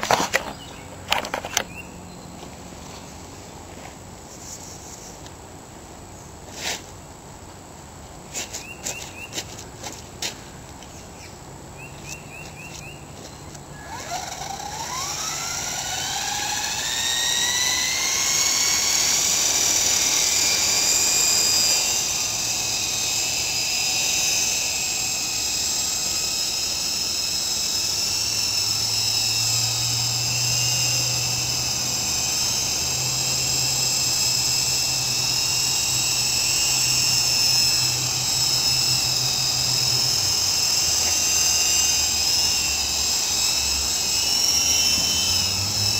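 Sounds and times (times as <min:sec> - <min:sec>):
electric helicopter rotor whine: 0:00.0 - 0:45.9.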